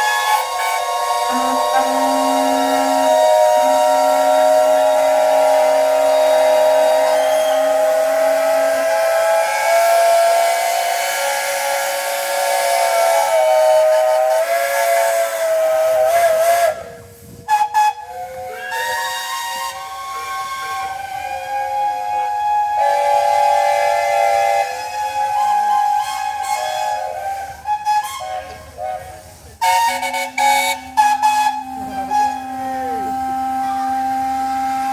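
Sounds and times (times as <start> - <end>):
hissing steam: 0.0 - 34.9
steam whistles blowing: 0.0 - 34.9.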